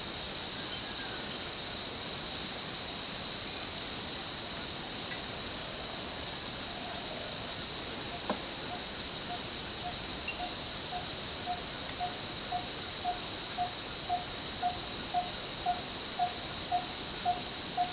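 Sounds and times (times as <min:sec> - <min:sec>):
high-pitched insect chorus: 0:00.0 - 0:17.9.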